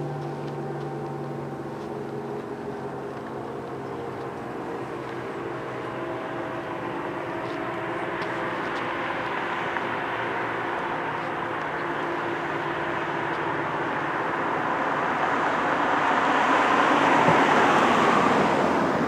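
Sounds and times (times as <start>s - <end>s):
road traffic hiss: 0.0s - 19.0s
warning siren steady tone: 0.0s - 19.0s.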